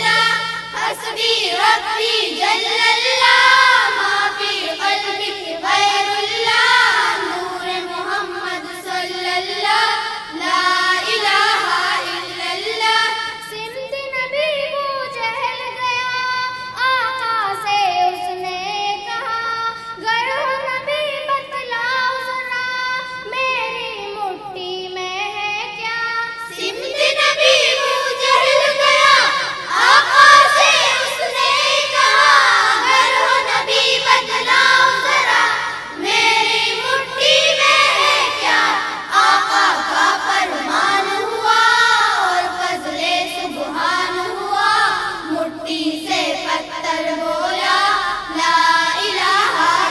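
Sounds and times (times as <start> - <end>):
children singing a hymn: 0.0 - 49.9.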